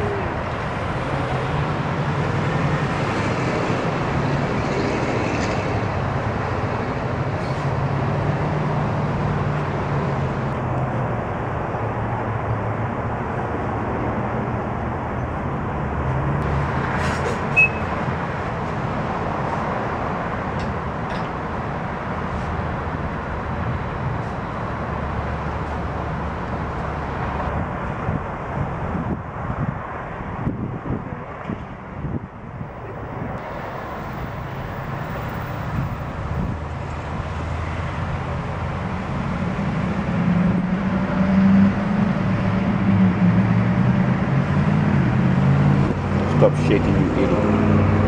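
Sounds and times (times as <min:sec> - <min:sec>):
passing cars and trucks: 0:00.0 - 0:48.0.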